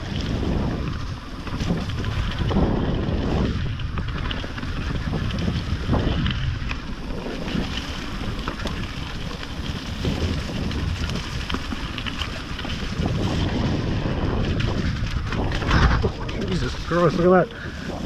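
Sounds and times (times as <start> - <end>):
bike rattles and knocks: 0.0 - 18.0
tyres rumbling on rough trail: 0.0 - 18.0
wind buffeting microphone: 0.0 - 18.0.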